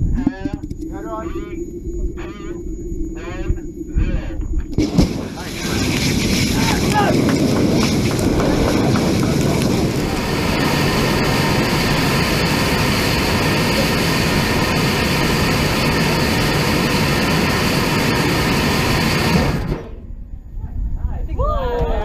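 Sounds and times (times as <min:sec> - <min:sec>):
rocket engine roaring: 0:00.0 - 0:20.5.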